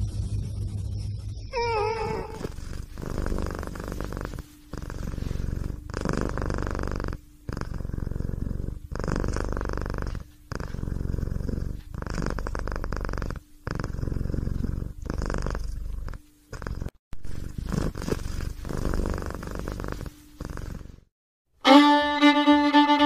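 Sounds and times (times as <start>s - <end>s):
cat purring: 1.5s - 21.1s.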